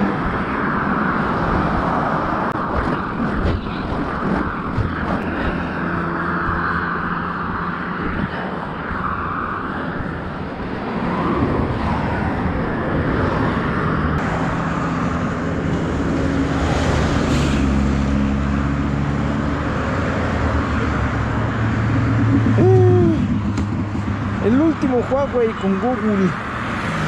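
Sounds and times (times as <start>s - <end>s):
highway traffic roar: 0.0s - 27.0s
wind: 0.0s - 27.0s.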